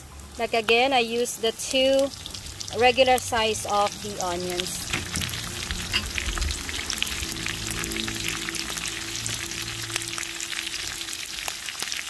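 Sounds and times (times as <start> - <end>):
onions sizzling in a pan: 0.0 - 12.0.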